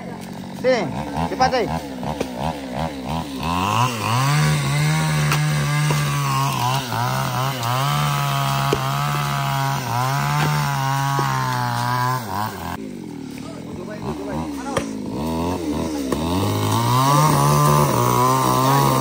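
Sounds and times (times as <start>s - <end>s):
chainsaw cutting logs: 0.0s - 19.0s.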